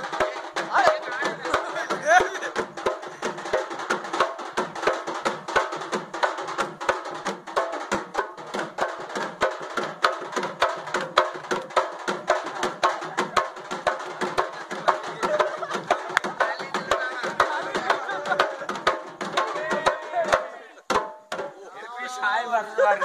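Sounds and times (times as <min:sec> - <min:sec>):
frame drums beaten with sticks: 0:00.0 - 0:21.7.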